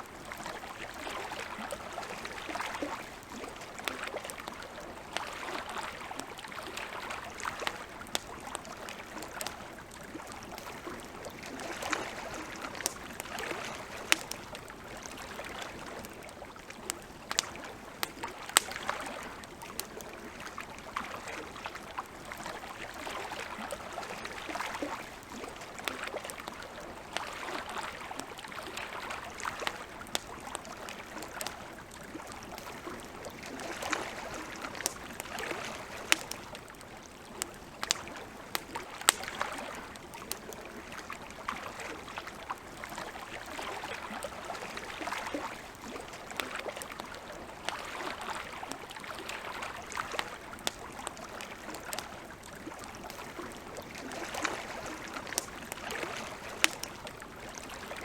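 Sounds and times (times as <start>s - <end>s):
campfire crackling and popping: 0.0s - 58.0s
lake water lapping: 0.0s - 58.0s.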